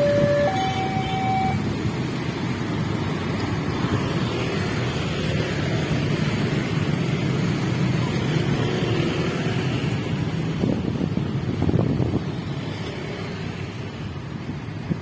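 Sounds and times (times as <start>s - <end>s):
heavy vehicle rumble: 0.0s - 15.0s.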